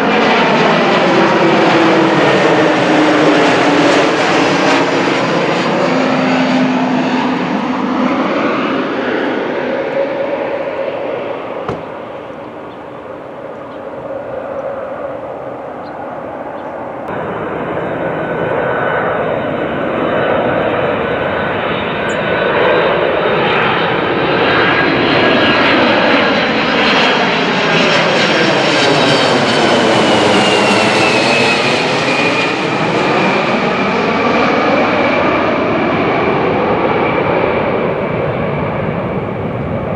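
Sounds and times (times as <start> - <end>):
high jet engine whine: 0.0 - 39.9
jet airliner passing overhead: 0.0 - 39.9.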